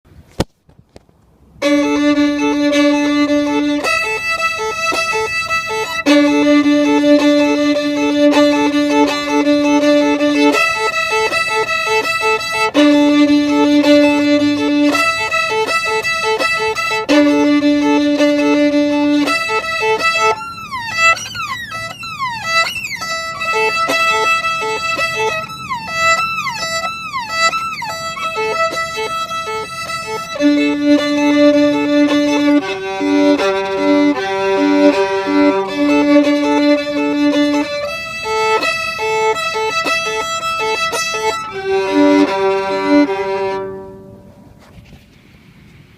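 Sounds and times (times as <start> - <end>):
solo violin: 1.6 - 44.6.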